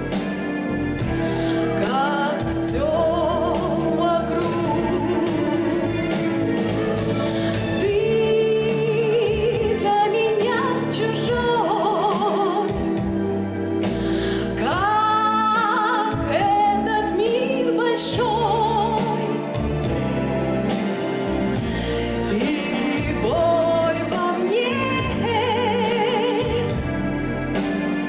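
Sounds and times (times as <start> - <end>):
recorded backing music: 0.0 - 28.0
woman singing with vibrato: 1.4 - 13.2, 14.3 - 20.0, 21.8 - 27.1.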